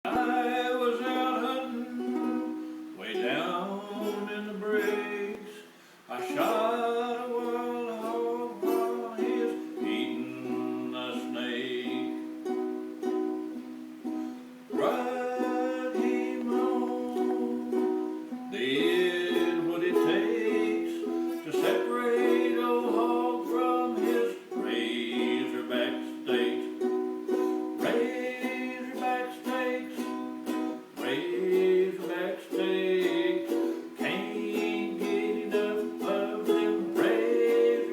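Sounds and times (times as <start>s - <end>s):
ukulele plucked chords: 0.0s - 5.5s, 6.1s - 37.9s
man singing: 0.0s - 12.7s, 14.7s - 37.9s.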